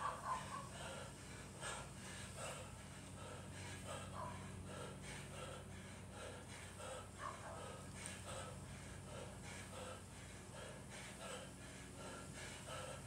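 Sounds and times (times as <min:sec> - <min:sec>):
man breathing hard: 0:00.0 - 0:13.0.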